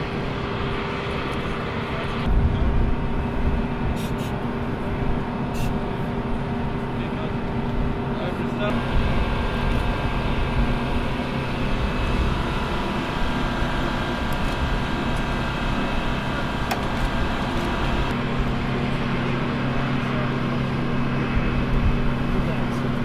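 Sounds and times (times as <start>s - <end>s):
aircraft engines droning: 0.0s - 23.0s.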